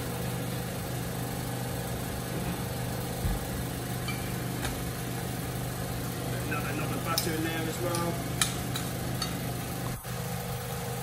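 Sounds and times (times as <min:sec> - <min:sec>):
kitchen fan humming: 0:00.0 - 0:11.0.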